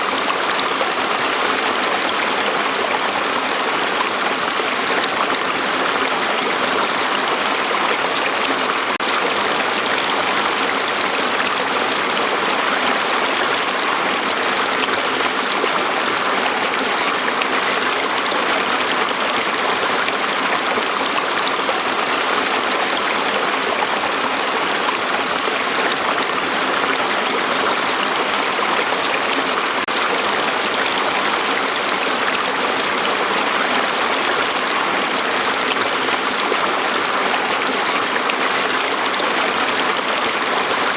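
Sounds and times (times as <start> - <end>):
flowing water splashing: 0.0 - 40.9.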